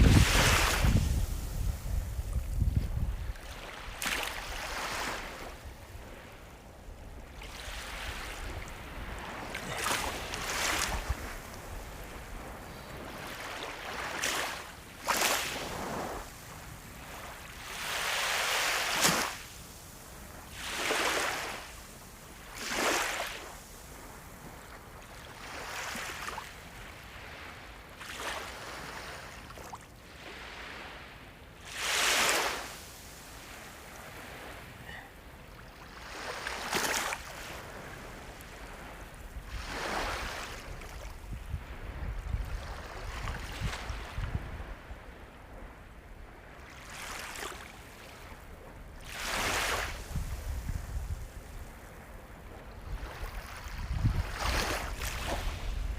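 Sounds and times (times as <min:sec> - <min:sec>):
sea waves breaking: 0:00.0 - 0:55.9.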